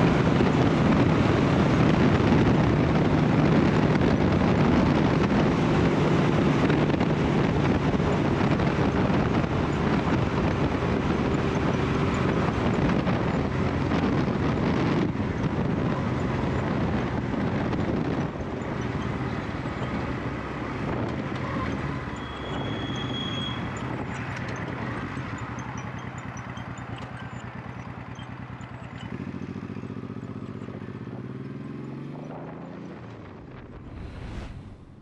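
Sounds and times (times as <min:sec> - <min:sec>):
motorcycle engine running: 0:00.0 - 0:22.8, 0:23.5 - 0:33.8.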